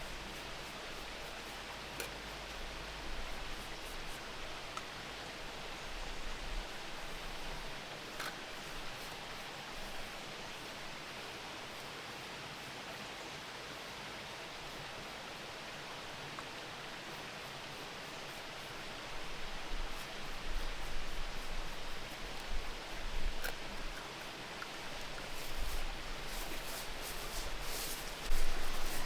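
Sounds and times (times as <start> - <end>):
outdoor hiss with soft rustle: 0.0 - 29.0.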